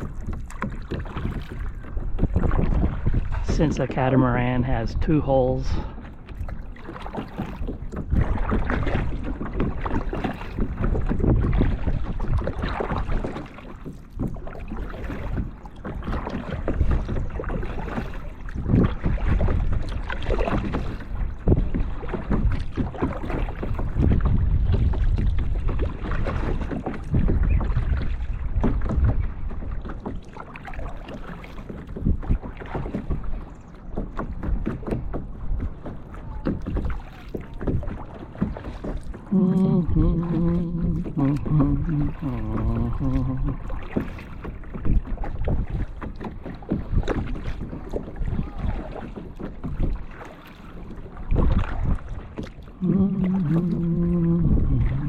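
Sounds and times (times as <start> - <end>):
wind buffeting microphone: 0.0 - 30.2, 31.8 - 50.2, 51.0 - 55.0
paddle splashing water: 0.0 - 55.0.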